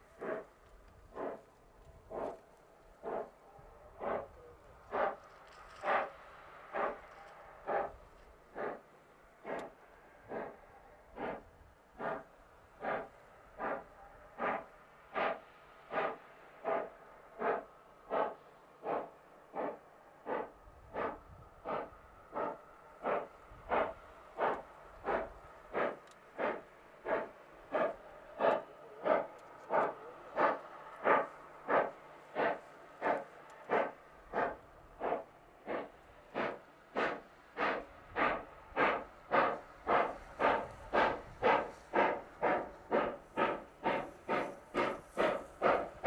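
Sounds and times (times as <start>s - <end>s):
steam locomotive chuffing: 0.0s - 46.0s.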